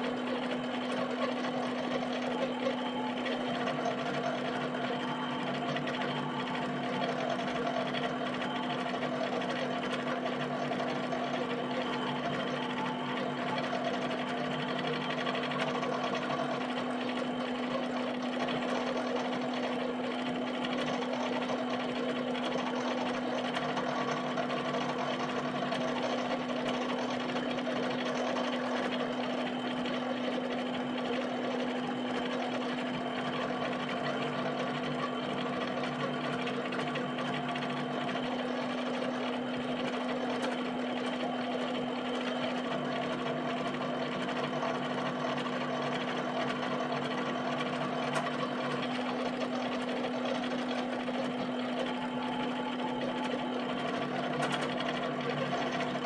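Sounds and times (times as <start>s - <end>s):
pen plotter motors whirring: 0.0s - 56.0s.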